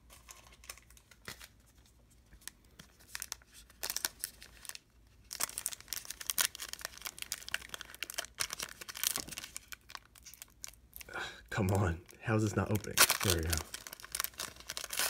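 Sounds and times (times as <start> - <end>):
wrapper crinkling and tearing: 2.4 - 15.0.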